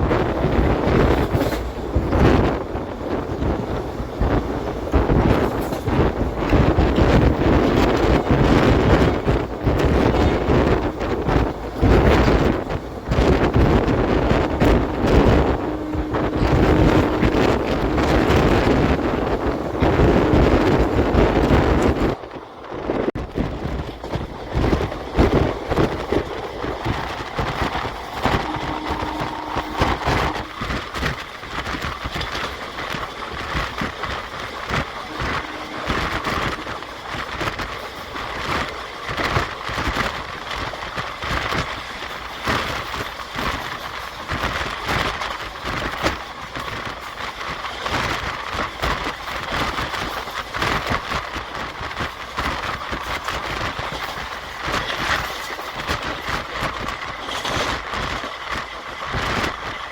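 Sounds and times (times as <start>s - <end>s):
train rattles and clicks: 0.0s - 59.9s
train wheels rumbling on rail: 0.0s - 59.9s.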